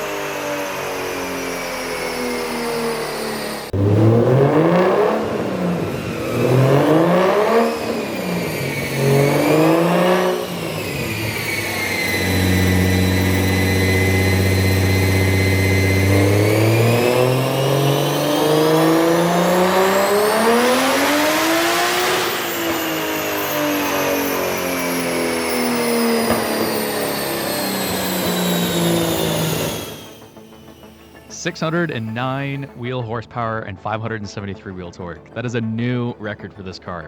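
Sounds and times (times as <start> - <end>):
car engine revving on dyno: 0.0 - 31.3.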